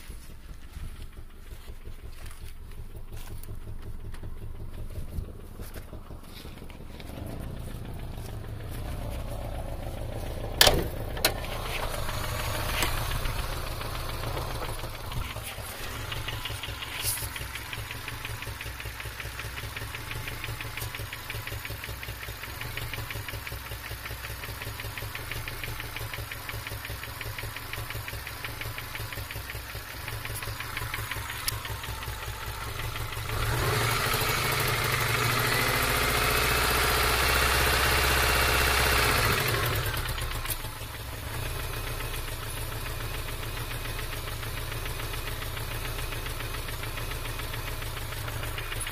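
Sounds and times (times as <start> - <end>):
car engine idling with knock: 0.0 - 48.9.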